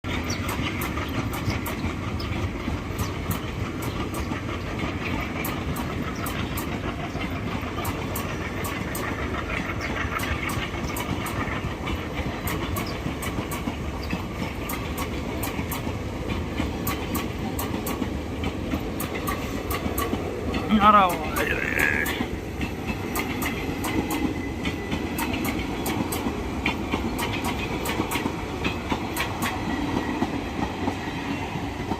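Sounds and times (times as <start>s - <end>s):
sharp clicks of train wheels: 0.0s - 31.9s
train rumbling on track: 0.0s - 31.9s.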